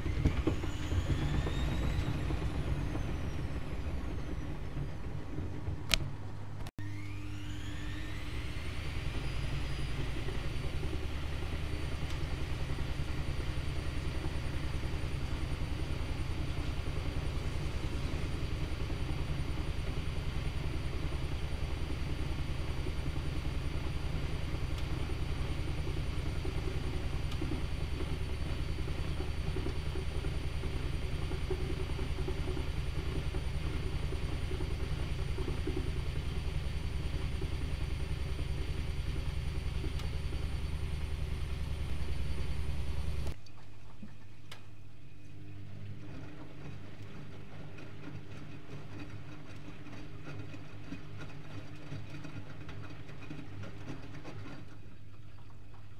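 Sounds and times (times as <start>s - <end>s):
washing machine spinning: 0.0s - 43.4s, 45.0s - 55.9s.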